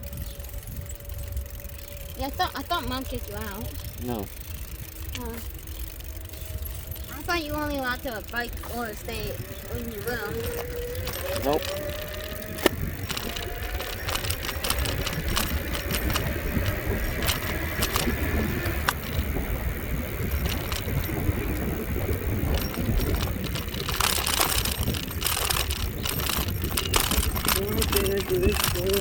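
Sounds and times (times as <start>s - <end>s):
bicycle clicks and rattles: 0.0s - 29.0s
wind rumbling on microphone: 0.0s - 29.0s.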